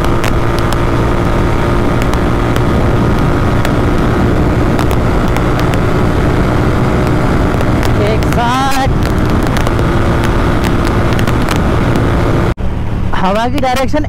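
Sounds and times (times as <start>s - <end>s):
motorcycle engine at high revs: 0.0s - 12.6s
wind rush: 0.0s - 13.2s
road noise: 0.0s - 14.0s.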